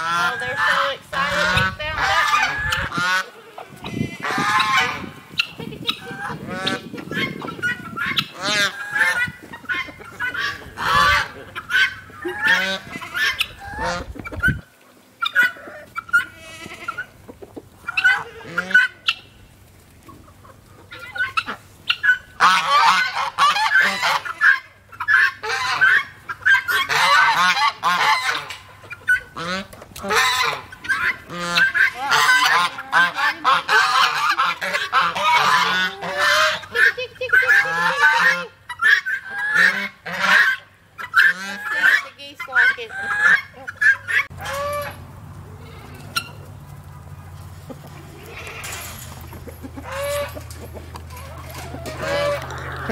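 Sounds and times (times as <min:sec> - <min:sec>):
geese honking: 0:00.0 - 0:14.6, 0:15.2 - 0:19.4, 0:20.1 - 0:52.9
chickens calling: 0:00.0 - 0:52.9.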